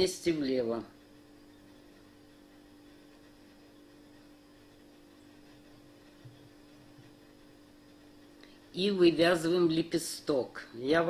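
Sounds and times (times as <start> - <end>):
faint electrical hum and hiss: 0.0 - 11.0.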